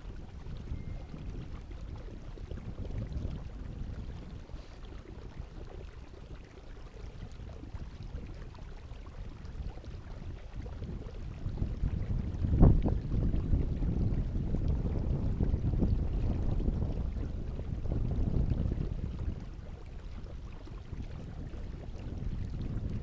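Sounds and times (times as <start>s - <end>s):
water: 0.0s - 23.0s
wind on microphone: 0.0s - 23.0s.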